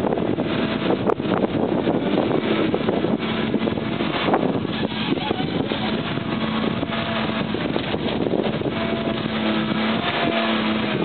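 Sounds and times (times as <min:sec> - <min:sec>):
diesel engine running under load: 0:00.0 - 0:11.0
hydraulics whining: 0:00.0 - 0:11.0.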